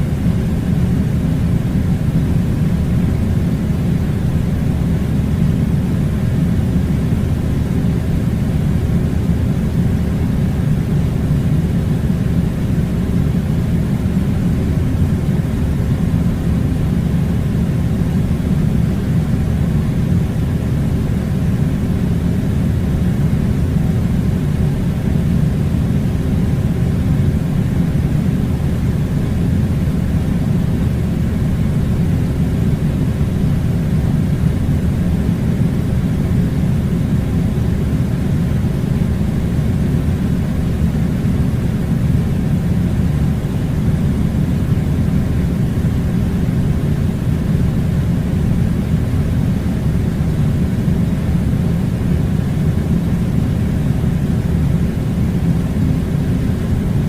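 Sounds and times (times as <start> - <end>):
air conditioner running: 0.0 - 57.0.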